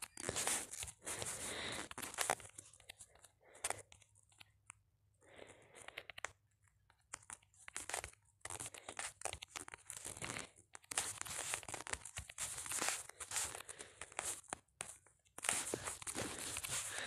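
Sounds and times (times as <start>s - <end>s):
rustling and crinkling: 0.0s - 4.7s, 5.3s - 17.0s.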